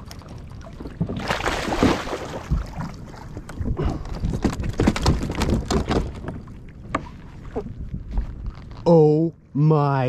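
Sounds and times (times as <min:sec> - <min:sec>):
water splashing against kayak hull: 0:00.0 - 0:08.5
wind rumbling on microphone: 0:00.0 - 0:10.0.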